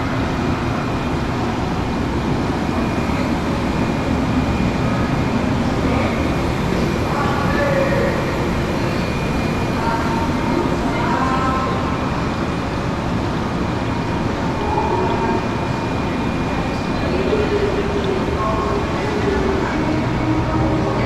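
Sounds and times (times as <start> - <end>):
steady rushing noise: 0.0 - 18.5
faint indistinct voices: 0.0 - 21.0.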